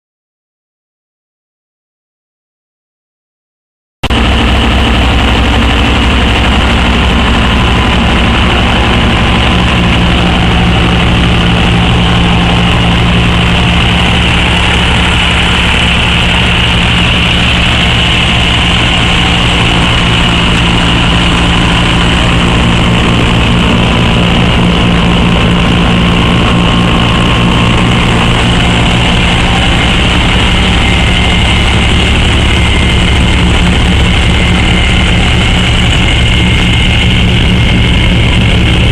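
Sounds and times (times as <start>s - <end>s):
diesel engine idling: 4.0s - 38.9s.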